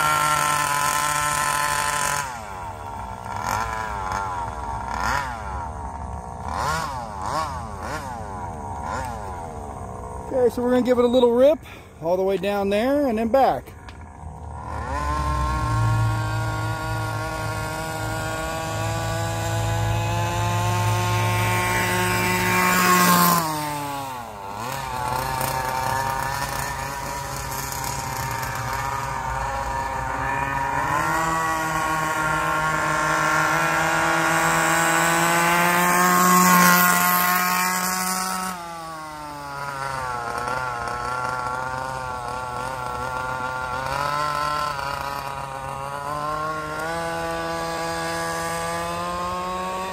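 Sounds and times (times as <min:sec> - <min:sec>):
two-stroke engine revving: 0:00.0 - 0:49.9.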